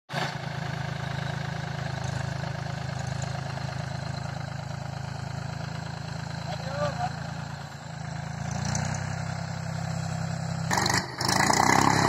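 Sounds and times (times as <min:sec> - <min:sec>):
tractor diesel engine running: 0:00.1 - 0:12.0.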